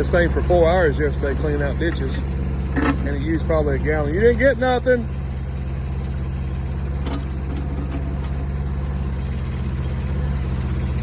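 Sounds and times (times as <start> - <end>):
small diesel engine running: 0.0 - 11.0.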